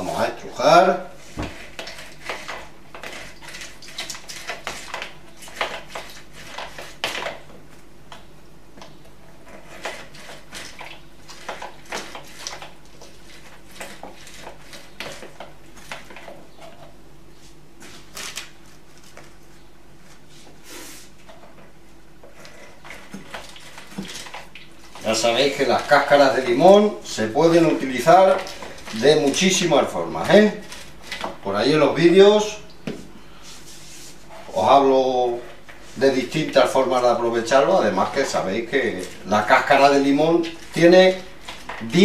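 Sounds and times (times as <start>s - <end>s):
rind scraping on juicer reamer: 0.0s - 7.6s, 9.2s - 17.0s, 22.2s - 32.5s, 33.6s - 42.0s.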